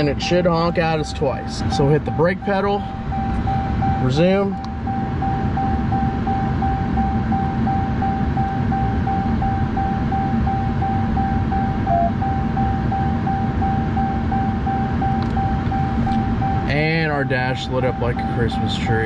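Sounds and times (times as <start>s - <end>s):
warning chime beeping: 0.0s - 19.0s
lower beep: 0.6s - 19.0s.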